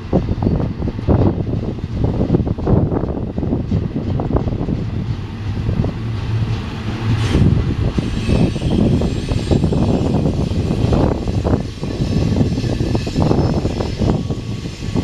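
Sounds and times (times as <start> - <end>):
train cars clicking and clanking: 0.0 - 15.0
train wheels rumbling on rails: 0.0 - 15.0.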